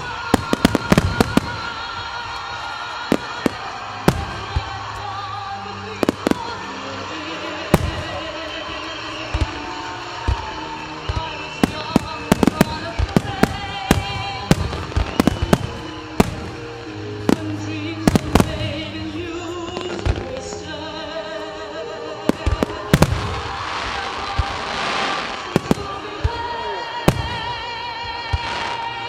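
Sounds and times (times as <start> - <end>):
fireworks bangs: 0.0 - 20.5, 22.3 - 29.0
music playing: 0.0 - 29.0.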